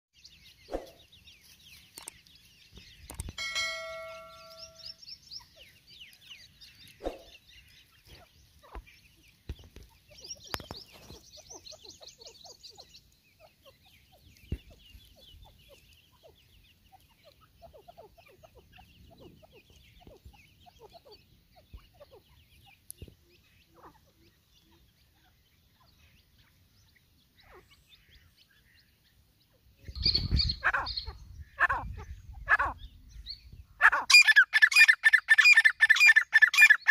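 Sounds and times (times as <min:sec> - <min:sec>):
small birds chirping trills: 0:00.2 - 0:36.9
francolins clucking: 0:00.3 - 0:36.9.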